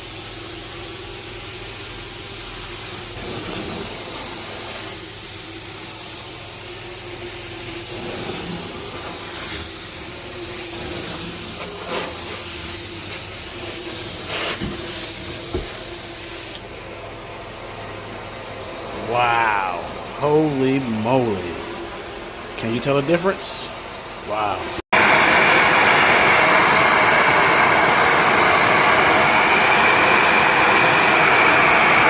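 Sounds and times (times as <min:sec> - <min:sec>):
carpet cleaning machine hissing: 0:00.0 - 0:32.0.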